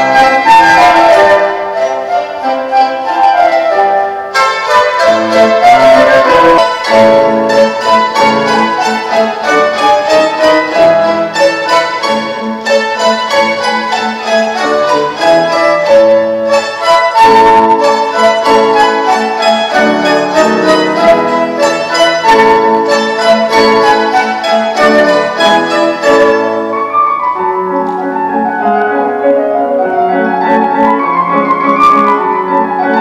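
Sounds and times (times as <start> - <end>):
flute melody: 0.0 - 33.0
mandolins plucking: 0.0 - 33.0.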